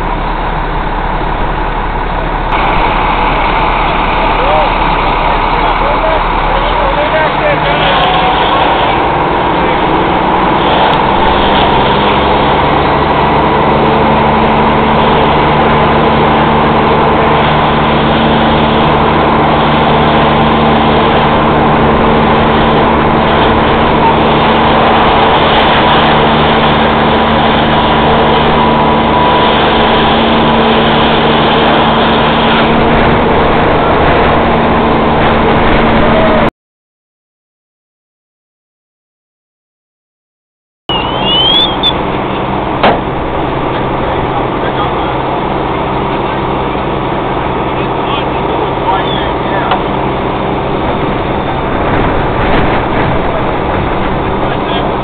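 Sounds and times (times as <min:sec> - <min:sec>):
engine drone: 0:00.0 - 0:36.5, 0:40.9 - 0:55.0
fire hose stream rushing: 0:00.0 - 0:36.5, 0:40.9 - 0:55.0.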